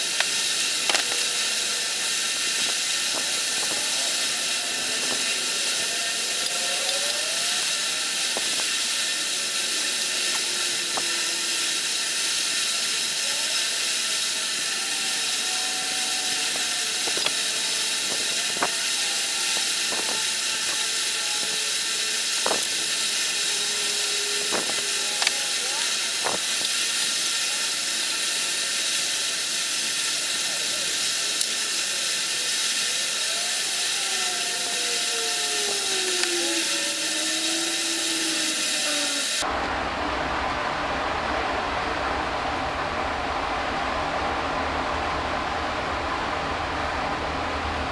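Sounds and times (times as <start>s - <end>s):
steady hiss: 0.0s - 39.6s.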